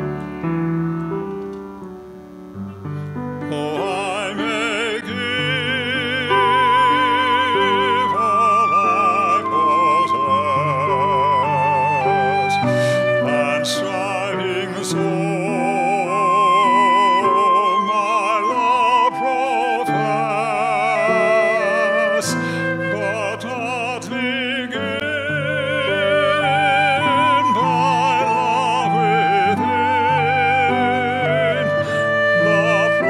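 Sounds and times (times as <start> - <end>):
person singing a hymn: 3.4 - 33.0.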